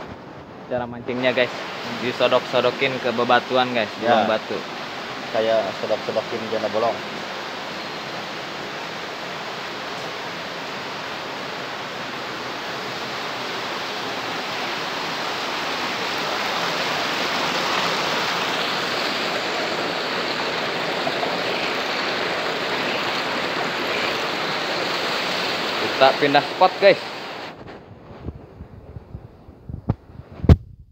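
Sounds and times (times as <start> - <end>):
creek water rushing: 0.0 - 27.6.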